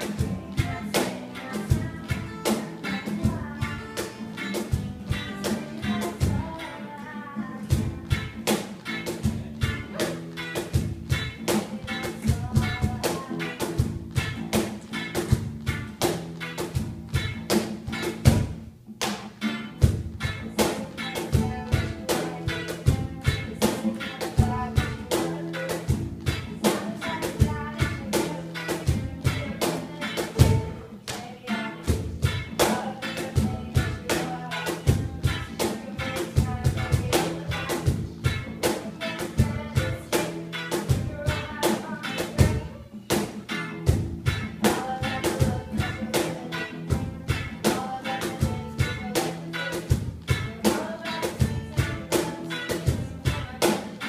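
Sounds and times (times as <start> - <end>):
cajon beat: 0.0 - 54.0
guitars strumming: 0.0 - 54.0.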